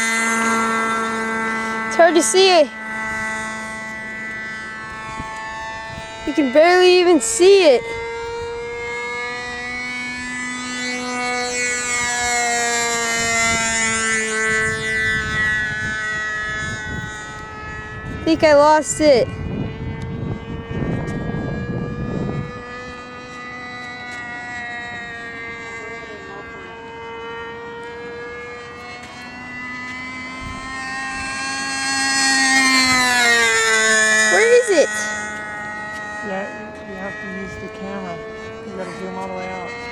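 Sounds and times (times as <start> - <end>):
distant model airplane engine whine: 0.0 - 39.9.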